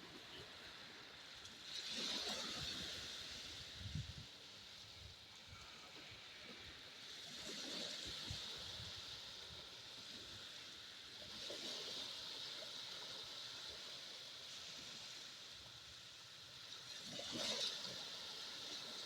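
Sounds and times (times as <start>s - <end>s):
waves washing on sandy beach: 0.0s - 19.0s.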